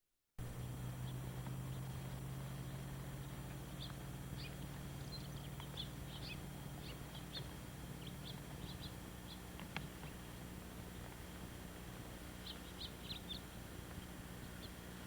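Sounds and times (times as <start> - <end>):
small birds chirping: 0.4 - 15.0
steady low hum: 0.4 - 15.0.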